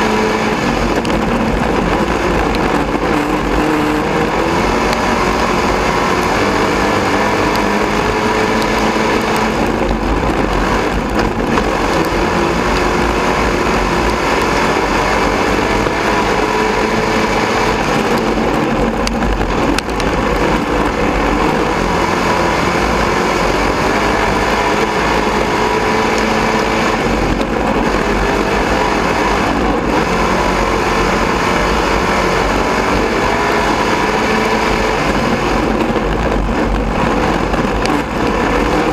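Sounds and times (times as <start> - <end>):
racing engine revving: 0.0 - 38.9.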